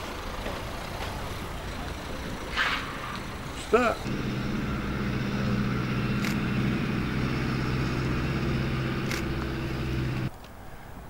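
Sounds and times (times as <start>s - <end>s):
engine humming steadily: 0.0s - 10.3s.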